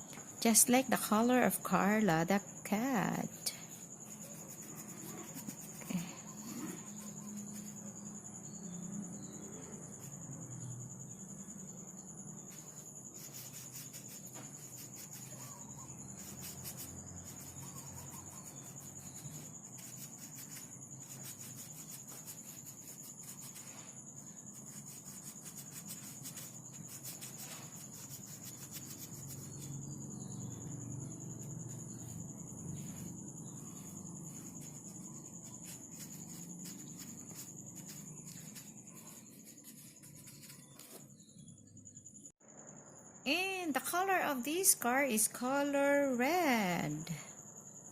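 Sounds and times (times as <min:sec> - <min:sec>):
coloring strokes on paper: 0:00.4 - 0:08.7, 0:11.1 - 0:41.2.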